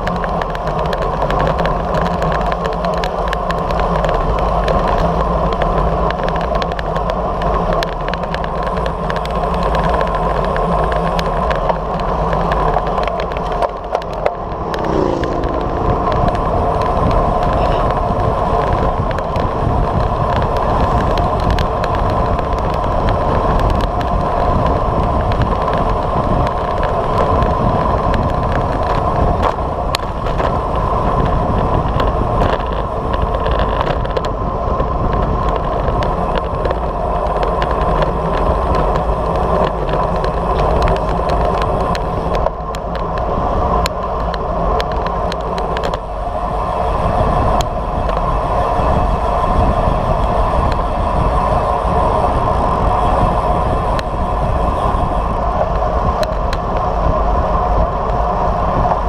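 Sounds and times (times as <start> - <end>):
tyres running on asphalt: 0.0 - 59.0
wind rushing over microphone: 0.0 - 59.0.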